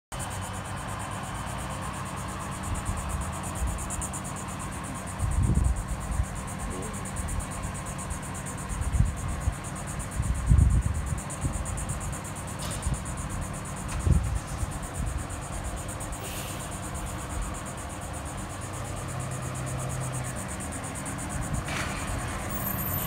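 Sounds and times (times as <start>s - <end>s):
insects chirping: 0.1s - 23.0s.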